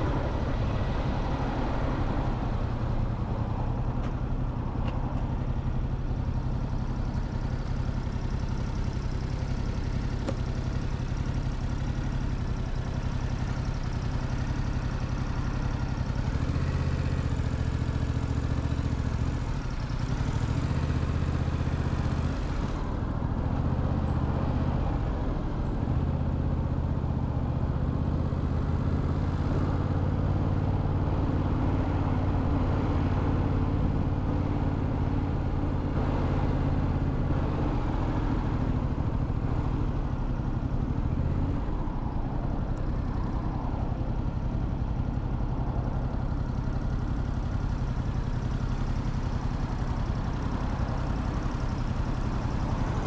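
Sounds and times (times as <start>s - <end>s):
motorcycle engine running: 0.0s - 53.0s
road and traffic noise: 0.0s - 53.0s.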